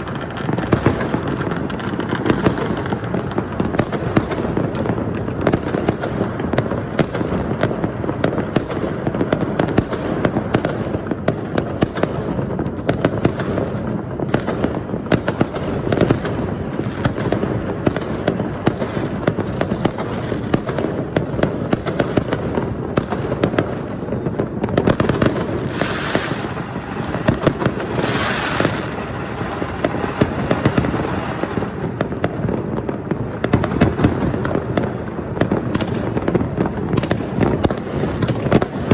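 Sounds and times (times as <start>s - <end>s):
firecrackers popping and cracking: 0.0s - 38.9s.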